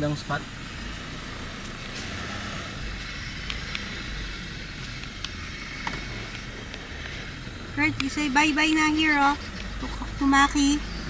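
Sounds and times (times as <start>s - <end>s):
engine and tyre rumble: 0.0s - 11.0s
gravel ticks: 0.7s - 11.0s.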